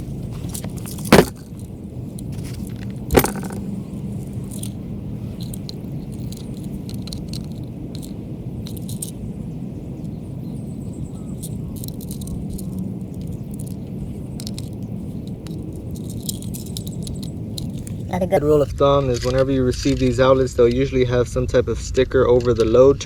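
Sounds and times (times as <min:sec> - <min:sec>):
tools clinking and rattling: 0:00.0 - 0:18.6
steady low rumble: 0:00.0 - 0:18.8.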